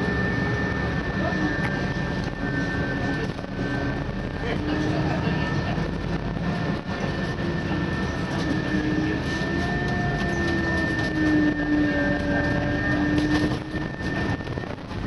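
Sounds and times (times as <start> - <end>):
bus engine and drivetrain hum: 0.0 - 15.0
rising whine: 0.0 - 15.0
rumbling road noise: 0.0 - 15.0.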